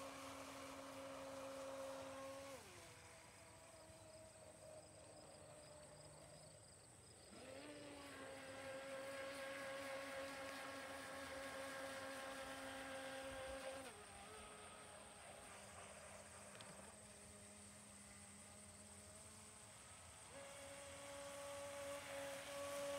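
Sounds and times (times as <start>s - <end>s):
model speedboat motor whining: 0.0s - 22.9s.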